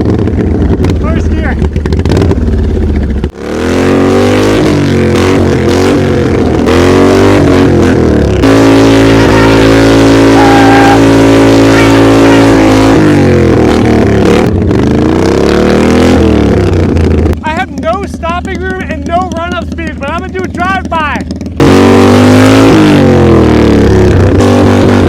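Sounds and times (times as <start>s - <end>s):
lawnmower engine revving: 0.0s - 25.0s.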